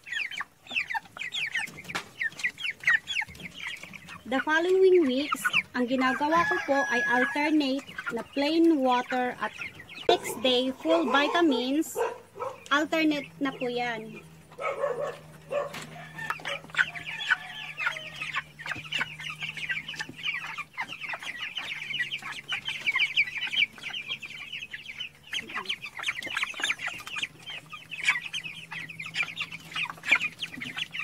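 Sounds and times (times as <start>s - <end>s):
chickens calling: 0.0s - 31.0s.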